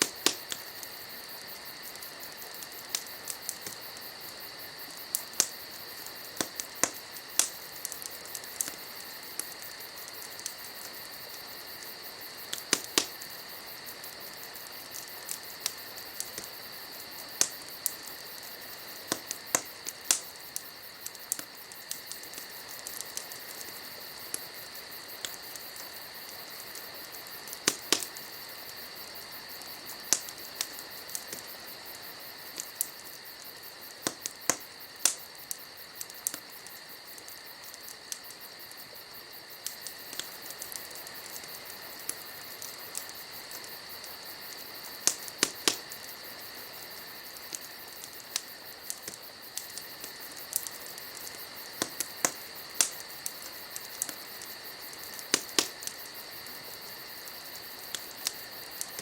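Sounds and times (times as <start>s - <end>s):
campfire crackling: 0.0s - 59.0s
high-pitched insect chorus: 0.0s - 59.0s.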